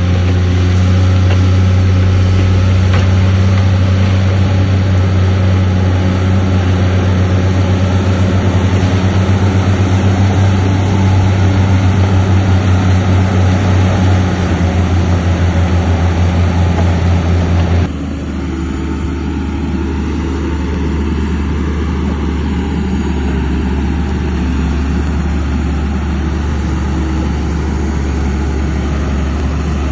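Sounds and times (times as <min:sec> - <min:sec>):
diesel engine throbbing hum: 0:00.0 - 0:29.9.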